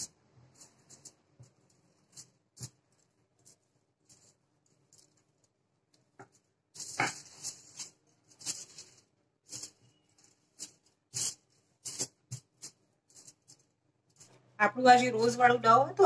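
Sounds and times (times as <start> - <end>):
aluminium foil crinkling: 0.0 - 14.4.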